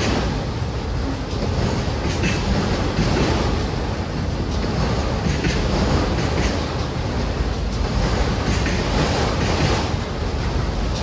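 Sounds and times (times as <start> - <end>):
steel wheels rumbling on rail: 0.0 - 11.0
light clanks and clicks: 1.2 - 11.0.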